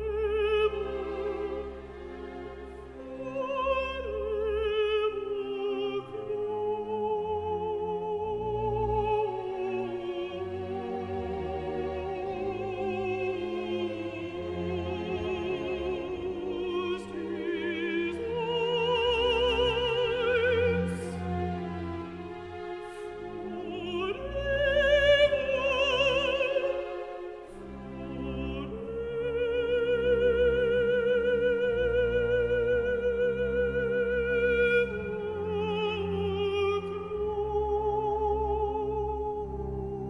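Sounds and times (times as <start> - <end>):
string orchestra: 0.0 - 40.0
solo alto voice singing: 3.0 - 21.7, 22.9 - 27.2, 27.9 - 40.0.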